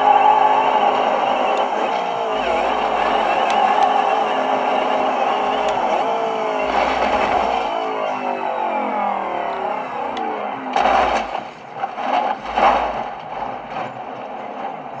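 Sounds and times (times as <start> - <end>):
car engine passing: 0.0 - 14.7.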